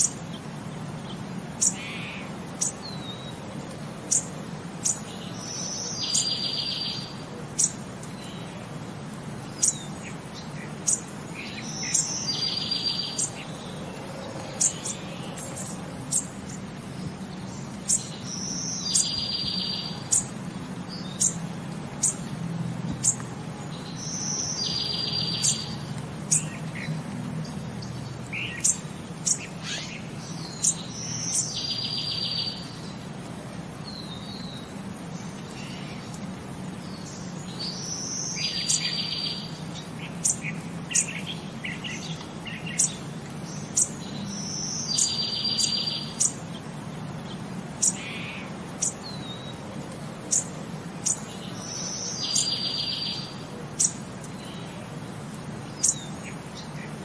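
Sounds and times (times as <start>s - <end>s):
songbird buzzy trill calls: 1.1s - 3.4s, 4.0s - 8.6s, 9.4s - 21.4s, 23.8s - 33.0s, 36.9s - 46.6s, 47.2s - 49.6s, 50.2s - 54.8s, 55.6s - 57.0s.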